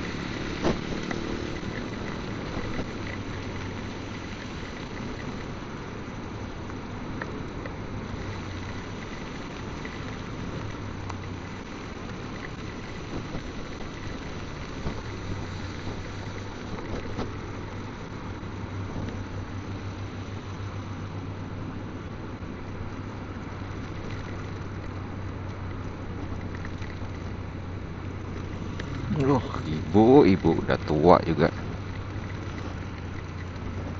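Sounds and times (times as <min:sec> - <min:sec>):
motorcycle engine drone: 0:00.0 - 0:33.9
rain and wet road hiss: 0:00.0 - 0:33.9.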